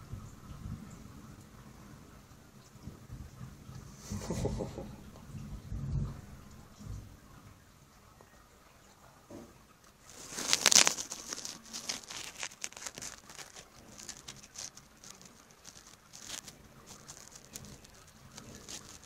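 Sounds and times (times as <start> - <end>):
heavy rain pattering: 0.0 - 19.0.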